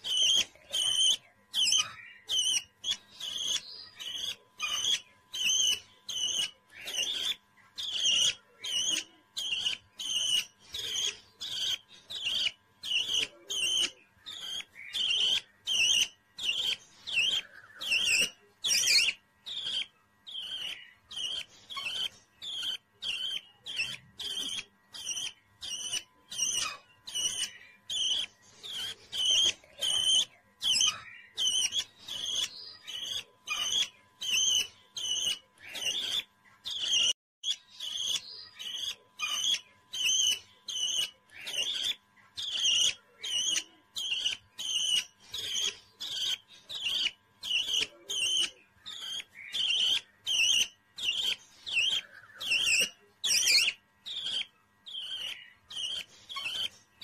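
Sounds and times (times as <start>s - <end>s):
budgerigar chick chirping: 0.0s - 57.0s.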